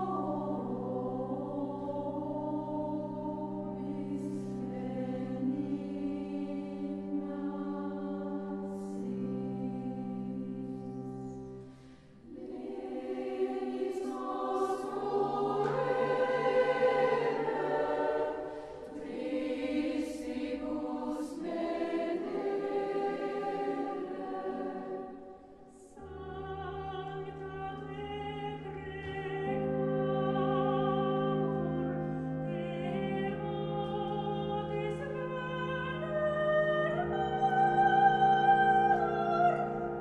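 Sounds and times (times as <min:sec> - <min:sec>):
choir singing with music: 0:00.0 - 0:40.0.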